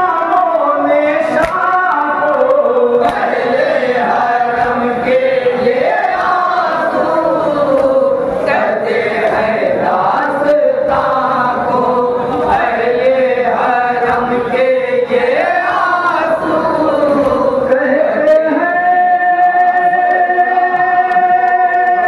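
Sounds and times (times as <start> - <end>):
men chanting: 0.0 - 22.0
person singing into a microphone: 0.0 - 22.0.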